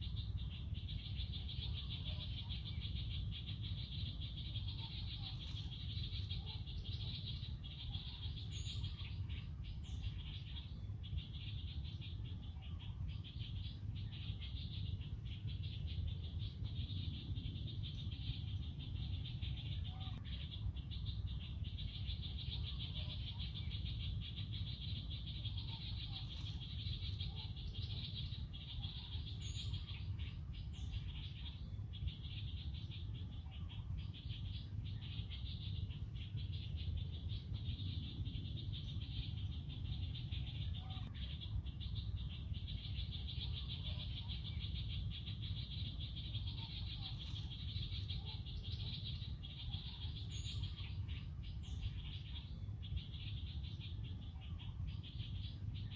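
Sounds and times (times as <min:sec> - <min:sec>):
high pulsing animal chorus: 0:00.0 - 0:55.9.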